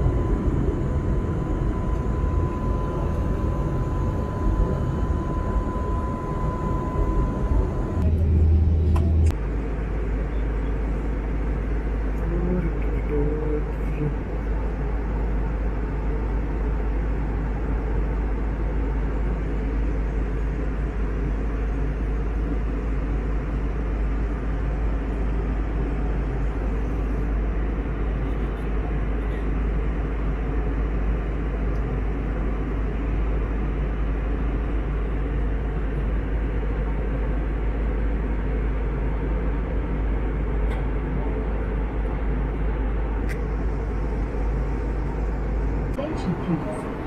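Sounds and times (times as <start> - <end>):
jet airliner cabin noise: 0.0 - 47.0.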